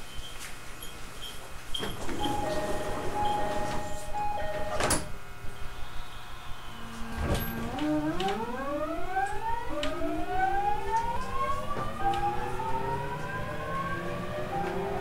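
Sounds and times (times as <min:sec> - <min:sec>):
train motors whining: 0:01.4 - 0:15.0.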